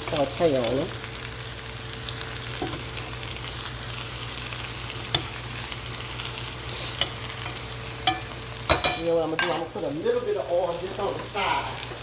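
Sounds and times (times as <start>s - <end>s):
potatoes and onions sizzling: 0.0s - 12.0s.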